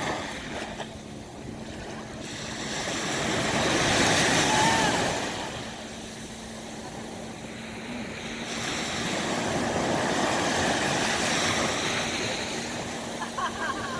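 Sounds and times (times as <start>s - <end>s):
sea waves breaking on shore: 0.0s - 13.9s
wind: 0.0s - 13.9s.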